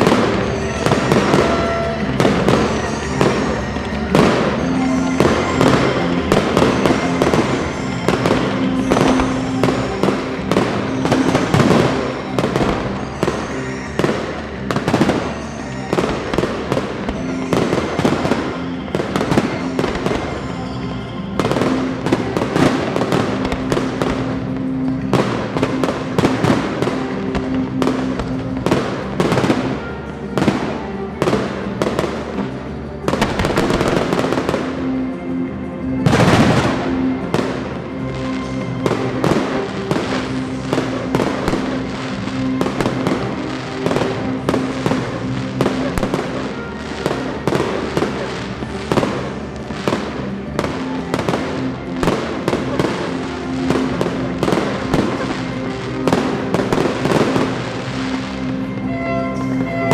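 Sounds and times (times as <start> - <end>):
fireworks bangs and crackling: 0.0 - 59.9
music playing: 0.0 - 59.9.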